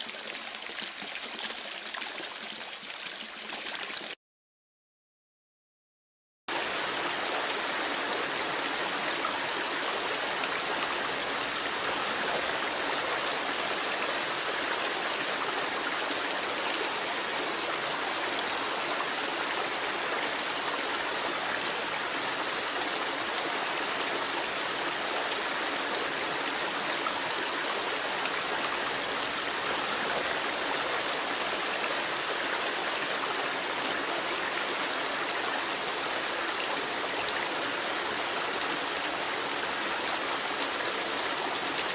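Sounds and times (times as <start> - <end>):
creek water flowing over stones: 0.0 - 4.2, 6.5 - 41.9.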